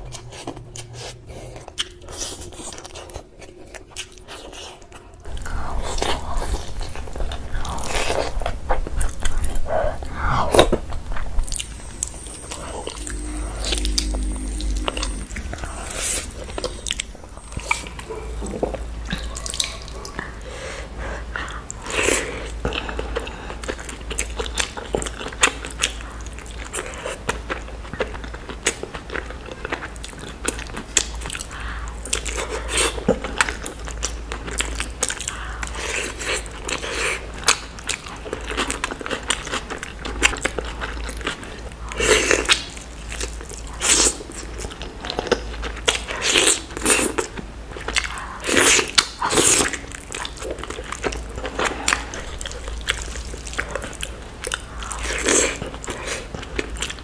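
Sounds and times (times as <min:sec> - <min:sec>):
low steady hum: 0:00.0 - 0:57.0
person chewing food: 0:00.0 - 0:57.0.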